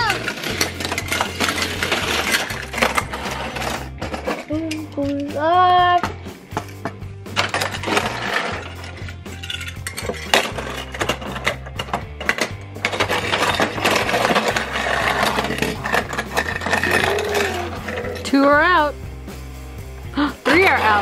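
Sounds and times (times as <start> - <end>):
toy cars clattering: 0.0 - 5.4, 6.0 - 18.4, 20.4 - 21.0
background music: 0.0 - 21.0.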